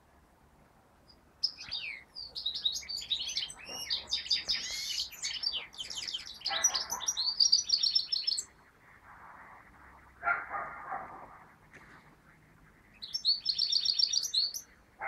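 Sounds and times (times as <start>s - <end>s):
bird twittering song: 1.1s - 15.0s.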